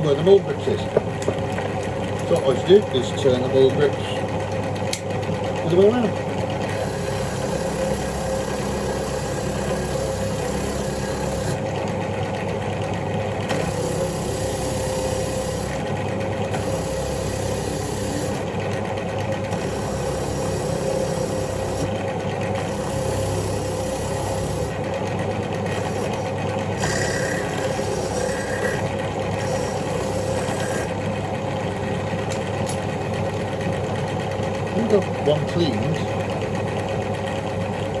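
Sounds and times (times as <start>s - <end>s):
electric power tool running: 0.0s - 38.0s.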